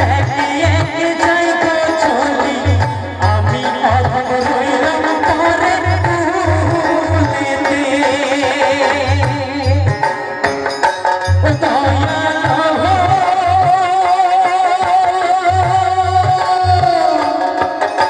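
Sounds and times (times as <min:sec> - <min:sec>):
person singing with vibrato: 0:00.0 - 0:18.0.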